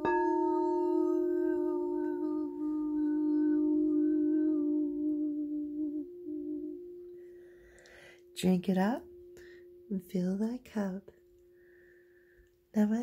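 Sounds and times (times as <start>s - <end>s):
singing bowl ringing: 0.0s - 12.5s.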